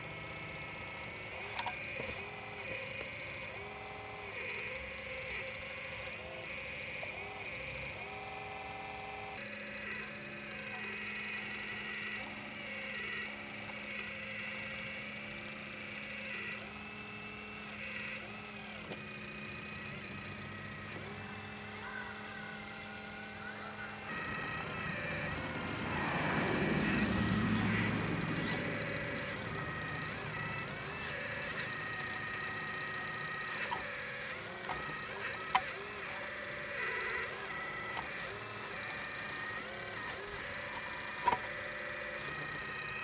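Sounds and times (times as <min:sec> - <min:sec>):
hydraulic pump whining: 0:00.0 - 0:43.0
steady hum: 0:00.0 - 0:43.0.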